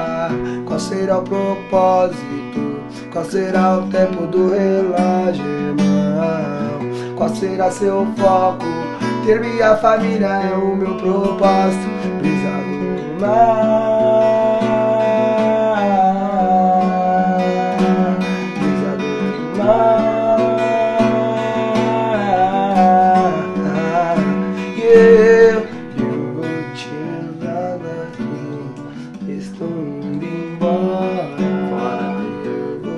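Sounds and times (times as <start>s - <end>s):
acoustic guitar: 0.0s - 32.9s
man singing: 0.0s - 32.9s.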